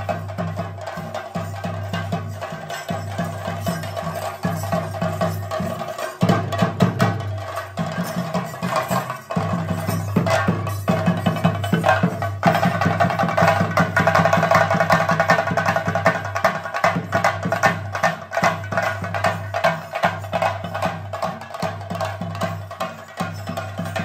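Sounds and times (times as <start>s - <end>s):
rapid drumming: 0.0s - 24.0s.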